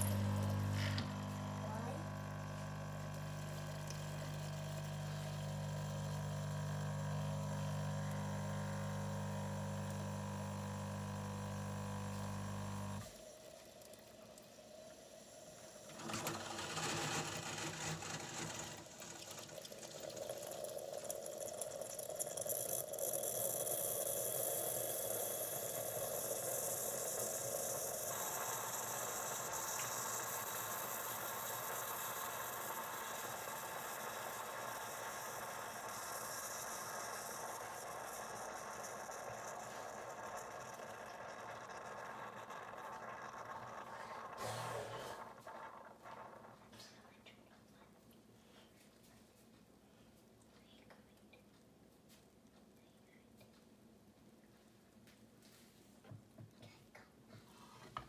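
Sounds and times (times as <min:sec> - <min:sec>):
coffee machine pump humming: 0:00.0 - 0:46.9
hiss of coffee running: 0:00.0 - 0:48.8.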